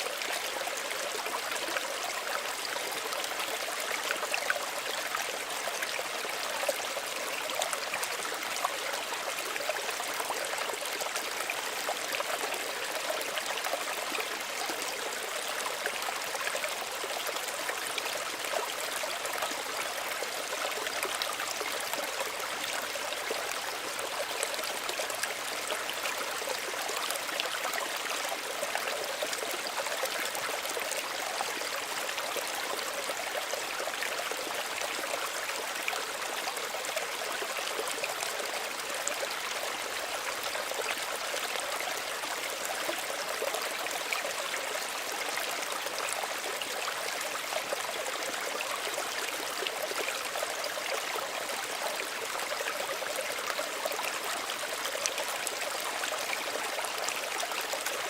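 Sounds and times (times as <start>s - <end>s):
small stream running: 0.0s - 58.0s.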